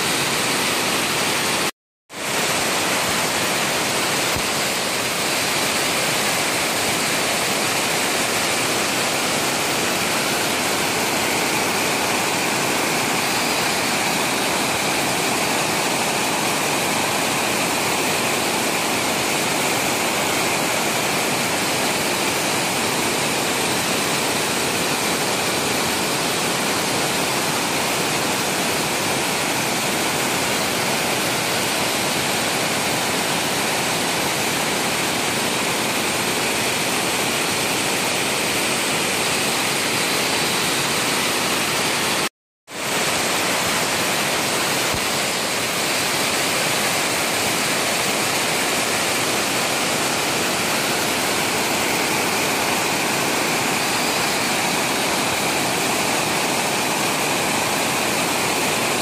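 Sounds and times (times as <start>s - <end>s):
waterfall rushing over rock: 0.0s - 59.0s.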